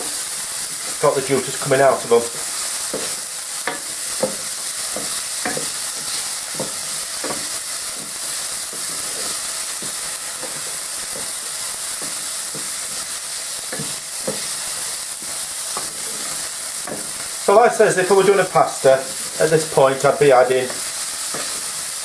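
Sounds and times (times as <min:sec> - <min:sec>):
utensil scraping a pan: 0:00.0 - 0:17.4, 0:20.6 - 0:21.8
peppers sizzling in a frying pan: 0:00.0 - 0:22.0.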